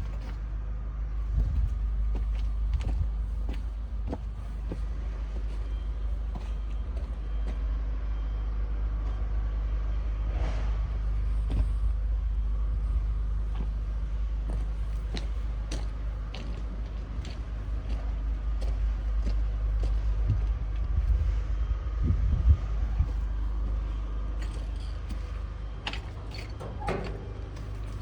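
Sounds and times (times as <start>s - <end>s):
excavator diesel engine running: 0.0s - 9.9s, 10.9s - 28.0s.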